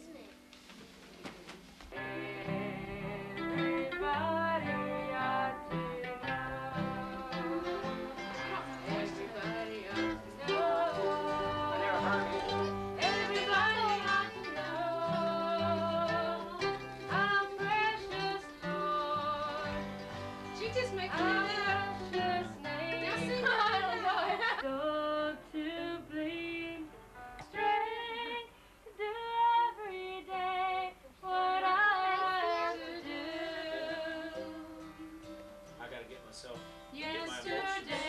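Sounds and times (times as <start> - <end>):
acoustic guitar: 0.0 - 38.0
mandolin: 1.8 - 38.0
woman singing: 1.9 - 35.4, 36.9 - 38.0.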